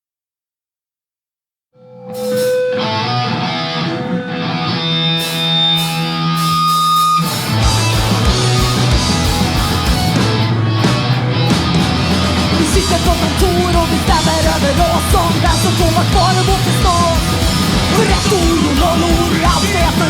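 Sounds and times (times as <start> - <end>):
distorted electric guitar: 1.8 - 20.0
rock band playing live: 2.1 - 20.0.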